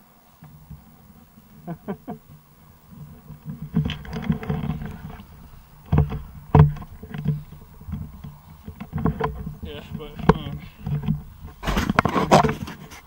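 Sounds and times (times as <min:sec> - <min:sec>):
rubbing against microphone: 0:00.4 - 0:13.0
sharp knocks: 0:01.9 - 0:12.8.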